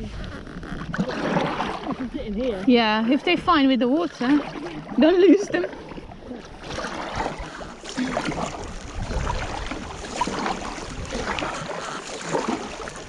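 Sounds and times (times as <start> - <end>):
water splashing around kayak: 0.0 - 13.0
wind rumbling on microphone: 0.0 - 13.0.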